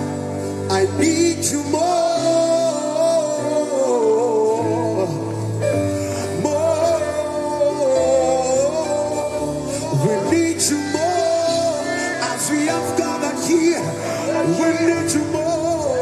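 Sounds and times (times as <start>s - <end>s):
person singing long held notes: 0.0s - 16.0s.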